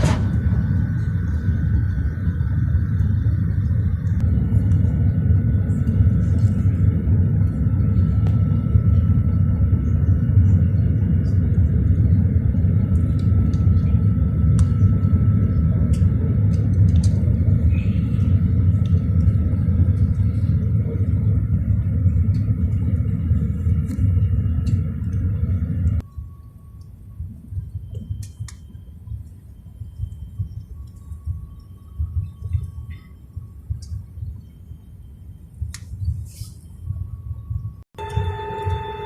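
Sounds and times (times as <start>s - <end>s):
jet engines at takeoff power: 0.0s - 39.0s.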